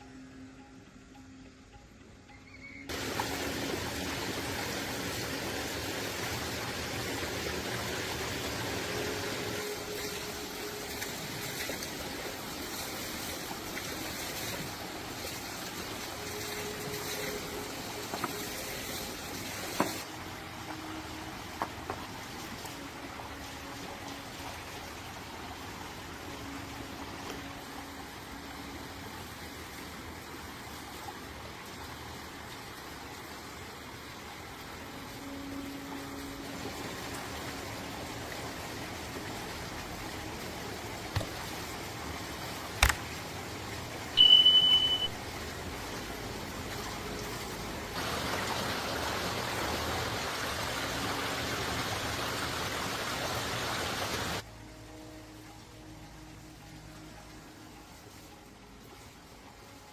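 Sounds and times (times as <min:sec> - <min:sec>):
running water rushing: 0:02.9 - 0:59.9.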